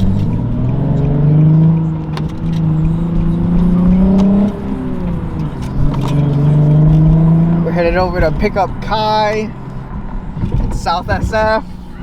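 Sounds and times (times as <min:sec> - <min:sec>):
car engine and exhaust revving: 0:00.0 - 0:12.0.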